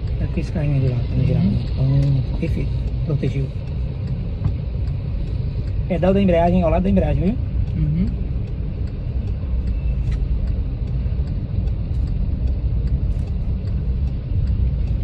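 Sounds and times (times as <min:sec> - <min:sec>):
engine and road noise rumble: 0:00.0 - 0:15.0
faint light ticks: 0:00.0 - 0:15.0.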